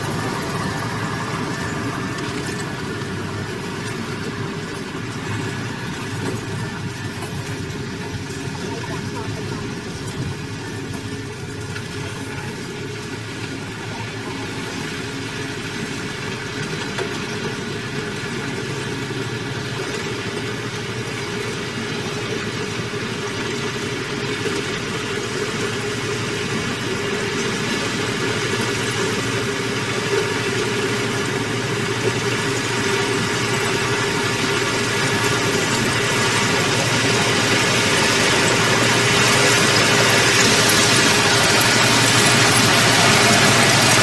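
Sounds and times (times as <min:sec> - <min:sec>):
heavy machine engine running: 0:00.0 - 0:44.0.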